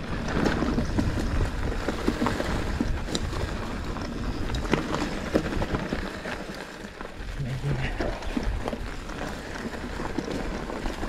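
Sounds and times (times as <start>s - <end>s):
bike knocking and rattling: 0.0s - 11.0s
bike tyres rumbling on dirt: 0.0s - 11.0s.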